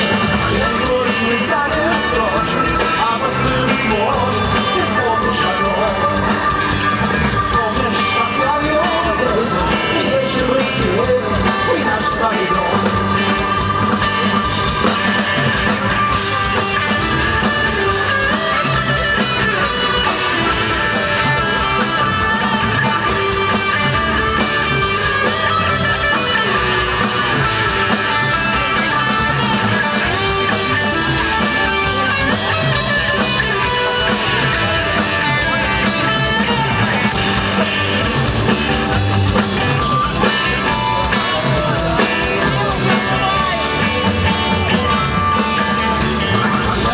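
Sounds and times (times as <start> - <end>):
guitar rock music: 0.0 - 46.9.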